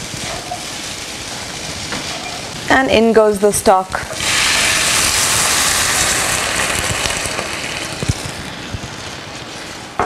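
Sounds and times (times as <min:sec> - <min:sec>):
broth sizzling in hot pan: 0:00.0 - 0:10.0.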